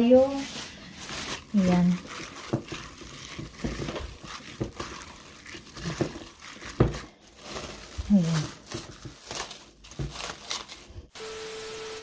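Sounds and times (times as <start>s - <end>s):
plastic glove crinkling: 0.0s - 11.1s
wet meat squishing: 0.3s - 10.9s.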